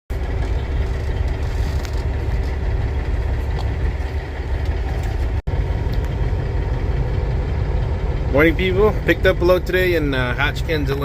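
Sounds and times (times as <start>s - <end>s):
truck diesel engine idling: 0.1s - 11.0s.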